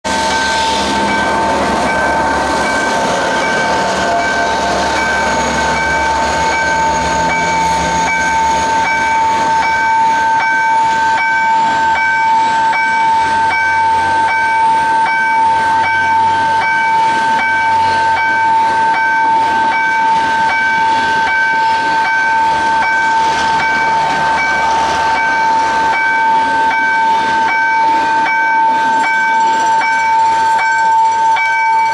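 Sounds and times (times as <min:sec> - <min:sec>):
level crossing warning alarm: 0:00.1 - 0:31.9
train wheels rumbling and clattering: 0:00.1 - 0:31.9.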